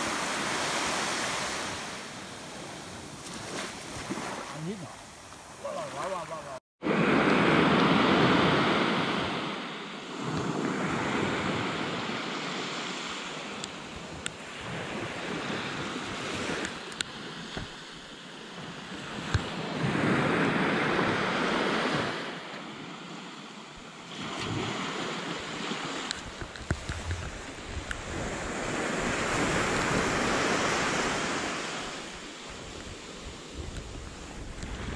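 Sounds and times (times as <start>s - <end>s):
surf waves breaking on sand: 0.0s - 34.9s.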